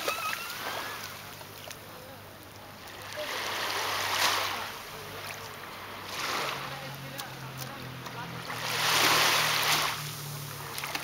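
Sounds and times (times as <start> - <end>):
waves lapping on pebbly shore: 0.0 - 2.2, 2.8 - 11.0.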